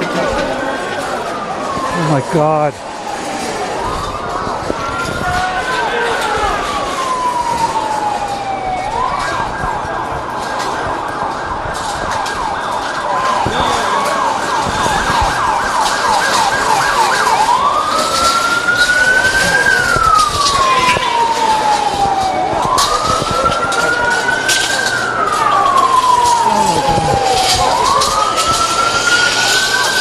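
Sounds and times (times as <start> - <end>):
emergency vehicle siren: 0.0 - 30.0.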